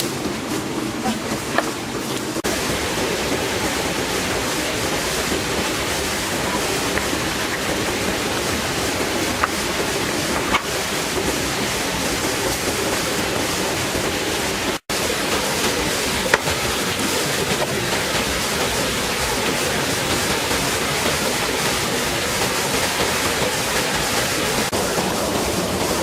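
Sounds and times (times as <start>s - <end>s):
waterfall falling into pond: 0.0s - 26.0s.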